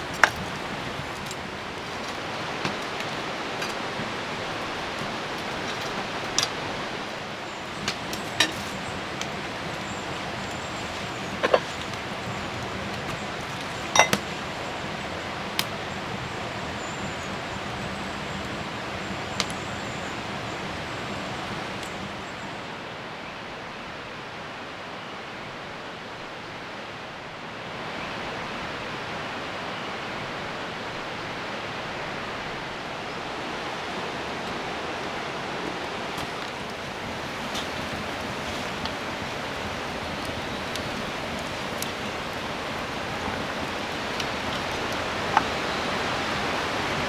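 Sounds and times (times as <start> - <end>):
rain falling: 0.0 - 22.4, 31.4 - 47.0.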